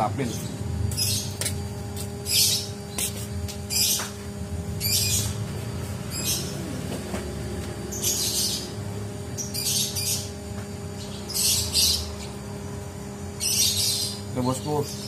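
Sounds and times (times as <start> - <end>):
bird chirping in rapid bursts: 0.0 - 6.7, 7.8 - 15.0
low hum: 0.4 - 15.0.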